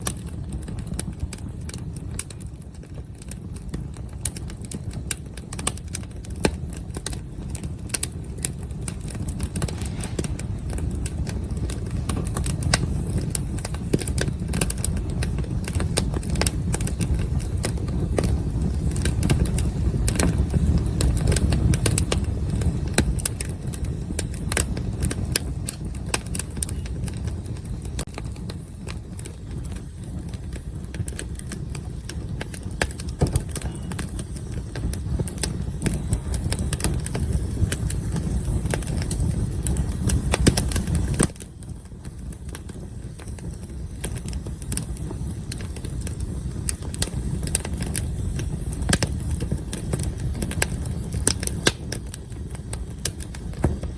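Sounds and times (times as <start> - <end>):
campfire crackling and popping: 0.0 - 53.9
low steady rumble: 0.0 - 53.9.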